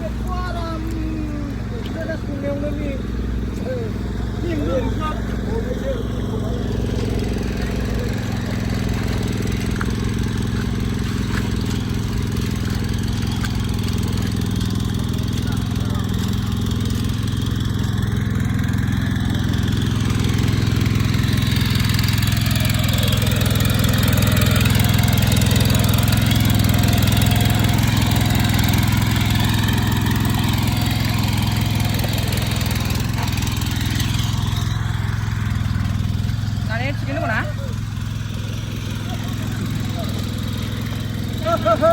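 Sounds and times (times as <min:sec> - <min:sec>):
small engine tilling soil: 0:00.0 - 0:41.9.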